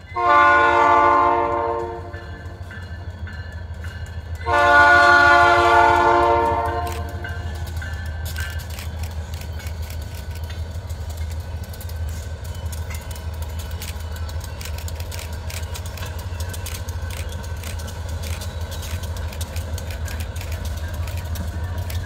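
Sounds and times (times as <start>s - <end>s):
diesel locomotive engines droning: 0.0s - 22.0s
wheels clicking on rails: 0.0s - 22.0s.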